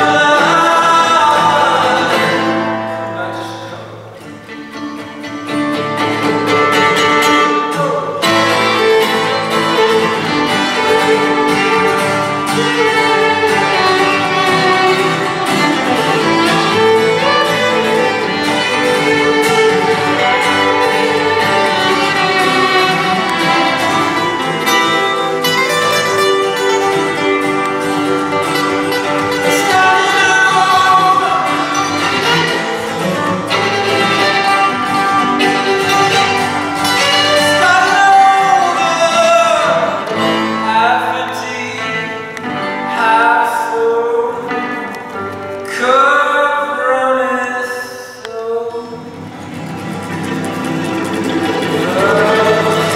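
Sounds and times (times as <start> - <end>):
strummed acoustic guitar: 0.0 - 52.9
bowed violin melody: 4.3 - 42.7, 48.9 - 52.9.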